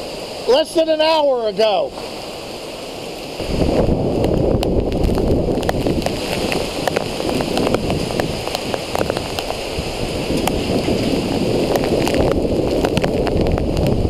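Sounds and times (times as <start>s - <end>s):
heavy rain pouring: 0.0s - 14.0s
strong gusting wind: 0.0s - 14.0s.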